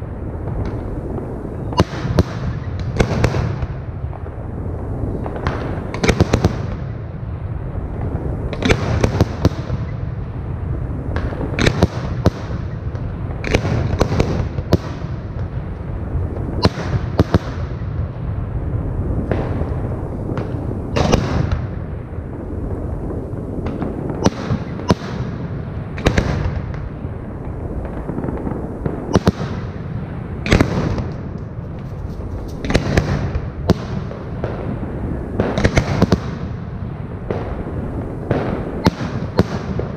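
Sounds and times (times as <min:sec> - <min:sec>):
continuous low rumble: 0:00.0 - 0:39.9
fireworks bursting with sharp bangs: 0:00.0 - 0:39.9.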